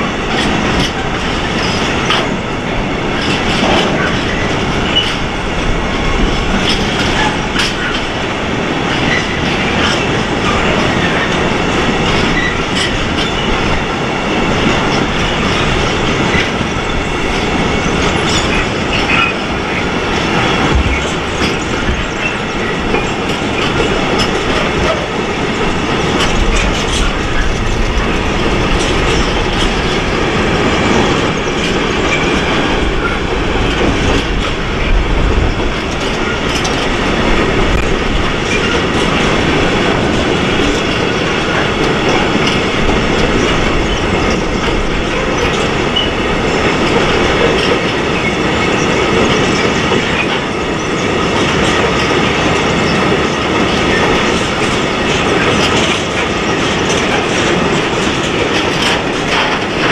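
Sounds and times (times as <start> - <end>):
clickety-clack over rail joints: 0.0 - 59.9
rumble of train wheels on rail: 0.0 - 59.9.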